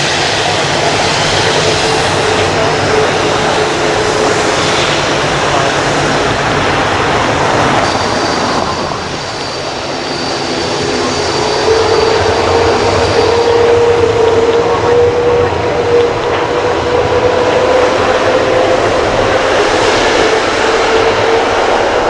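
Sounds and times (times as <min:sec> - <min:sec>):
high whine: 0:00.0 - 0:22.0
jet engines running: 0:00.0 - 0:22.0.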